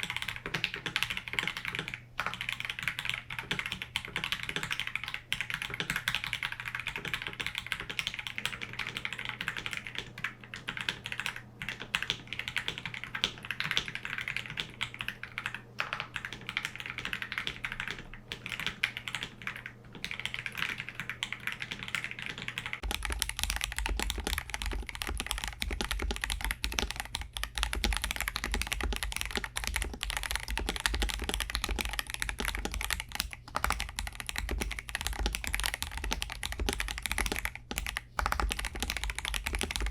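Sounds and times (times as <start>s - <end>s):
low steady hum: 0.0s - 39.9s
mechanical keyboard typing: 0.0s - 39.9s.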